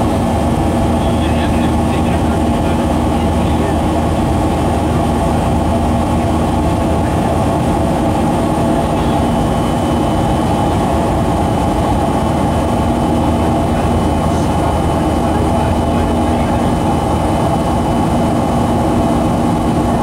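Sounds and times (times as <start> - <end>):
jet engines droning in cabin: 0.0 - 20.0
steady tones above rumble: 0.0 - 20.0.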